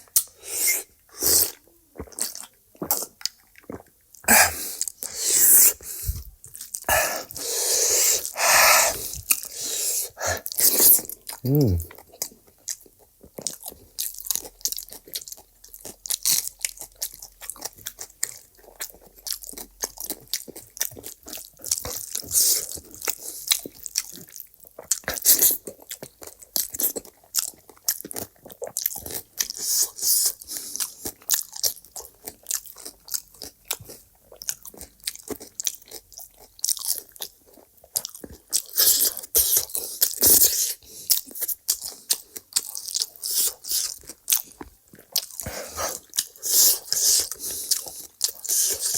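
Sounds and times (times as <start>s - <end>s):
person crunching and chewing food: 0.0s - 48.9s.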